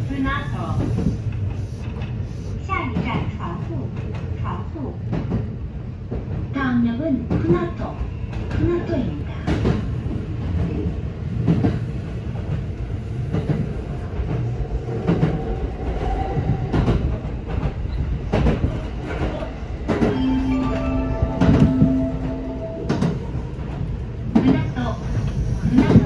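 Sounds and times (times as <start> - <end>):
train rumbling along track: 0.0 - 26.0
rail joints clacking: 2.8 - 26.0.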